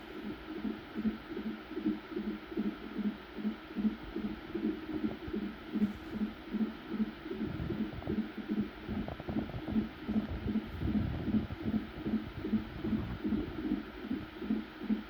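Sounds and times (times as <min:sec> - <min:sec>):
fetal heartbeat on doppler monitor: 0:00.0 - 0:15.0.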